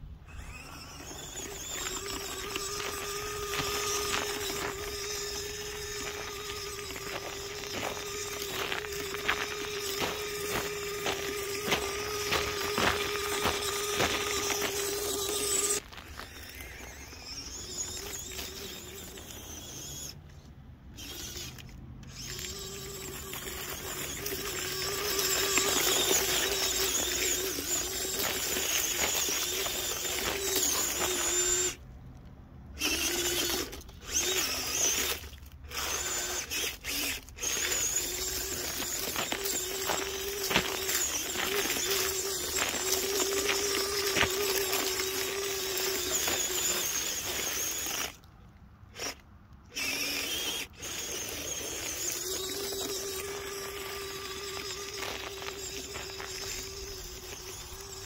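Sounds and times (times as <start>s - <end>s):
small electric motor whining: 0.0s - 31.9s, 32.6s - 58.0s
crunching over icy snow and leaves: 0.3s - 20.1s, 21.0s - 31.8s, 32.8s - 48.2s, 49.8s - 58.0s.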